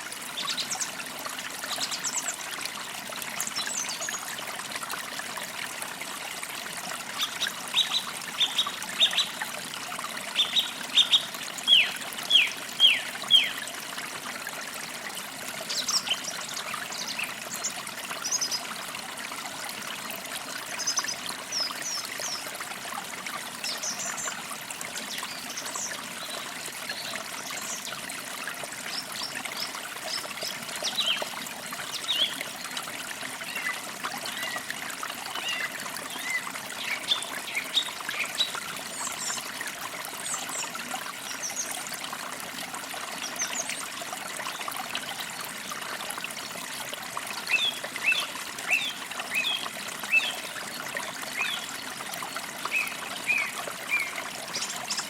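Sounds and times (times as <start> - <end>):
creek trickling and babbling: 0.0 - 55.0.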